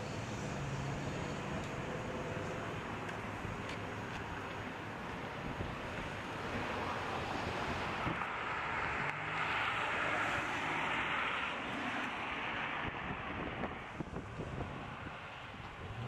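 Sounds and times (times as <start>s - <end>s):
passing vehicles rushing: 0.0s - 16.0s.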